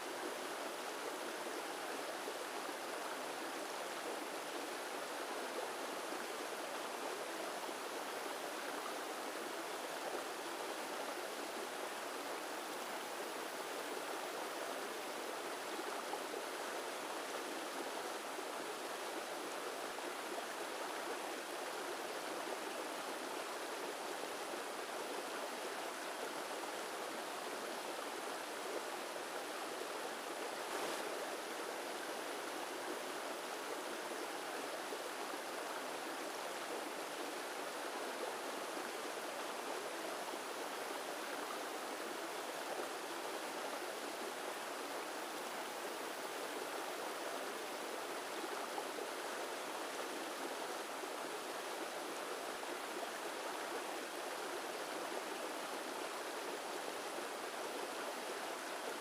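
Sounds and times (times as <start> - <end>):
stream rushing over stones: 0.0 - 59.0.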